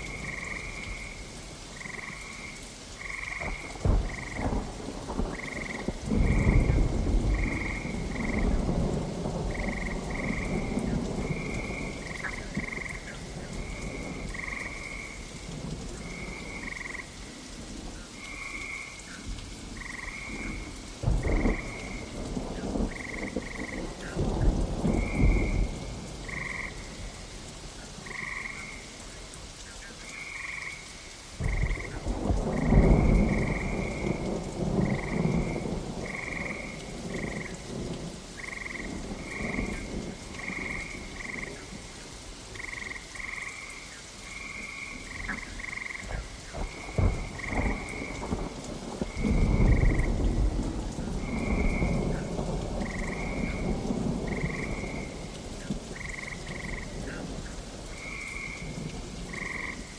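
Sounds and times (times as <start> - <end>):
thunder rumbling: 0.0 - 27.2, 31.4 - 43.4, 44.5 - 59.9
frogs croaking: 0.0 - 59.9
steady rain: 0.0 - 59.9.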